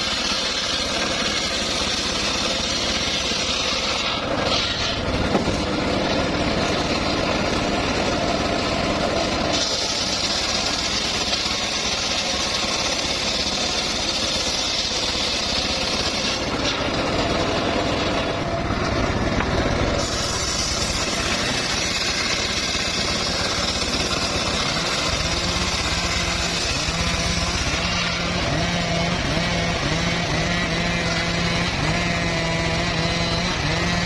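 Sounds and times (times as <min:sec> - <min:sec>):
sawmill engine running: 0:00.0 - 0:34.0.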